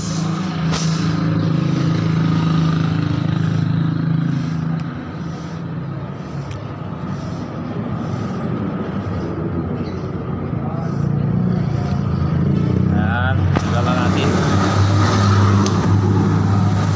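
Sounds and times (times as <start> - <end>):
traffic rumble: 0.0 - 16.9
car engine humming: 0.1 - 16.9.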